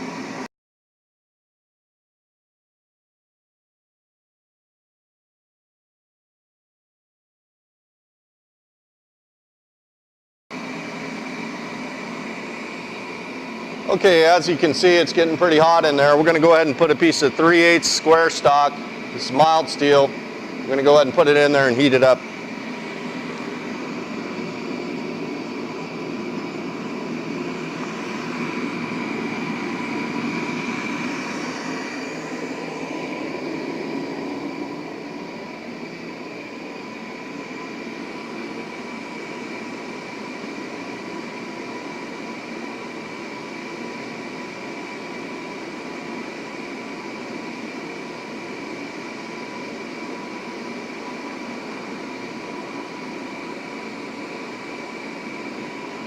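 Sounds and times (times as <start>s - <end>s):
gas forge burner hissing: 10.6s - 56.0s.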